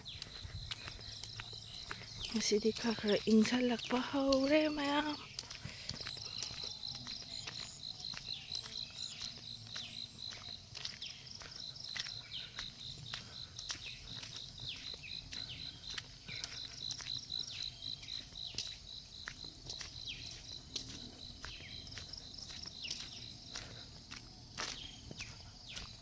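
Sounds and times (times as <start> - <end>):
footsteps on wet road: 0.0 - 26.0
insects chirping in regular pulse: 0.0 - 26.0.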